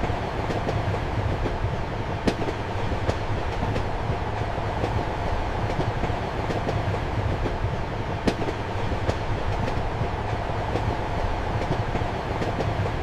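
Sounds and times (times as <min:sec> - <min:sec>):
train rumbling: 0:00.0 - 0:13.0
wheels clacking over rail joints: 0:00.0 - 0:13.0.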